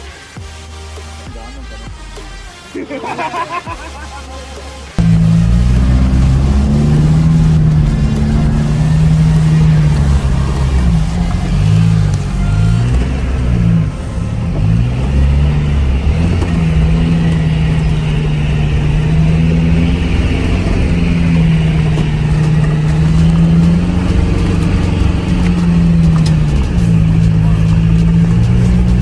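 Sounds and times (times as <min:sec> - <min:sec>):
off-road vehicle engine under load: 0:01.6 - 0:29.0.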